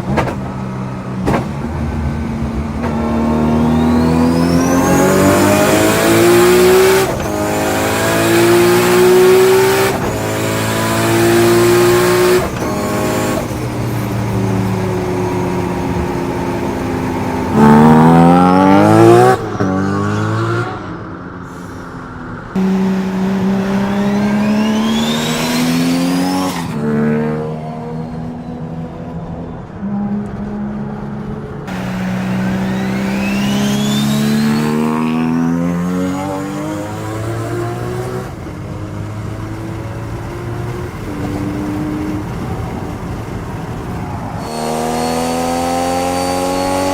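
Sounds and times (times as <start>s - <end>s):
car engine accelerating hard: 0.0s - 46.9s
high engine whine: 0.0s - 46.9s.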